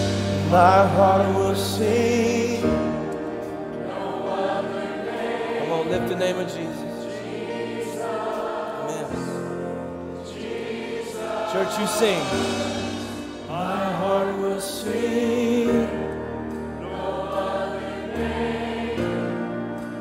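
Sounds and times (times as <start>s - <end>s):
choir and band playing worship song: 0.0s - 20.0s.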